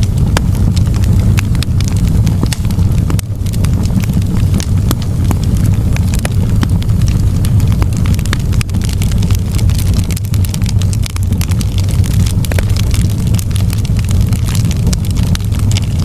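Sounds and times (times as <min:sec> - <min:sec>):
low rumble of flames: 0:00.0 - 0:16.0
wood fire crackling: 0:00.0 - 0:16.0.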